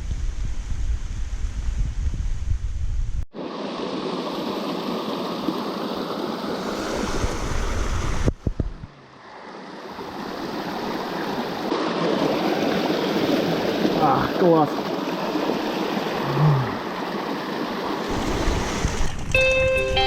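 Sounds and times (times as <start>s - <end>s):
running water rushing: 3.3s - 20.0s.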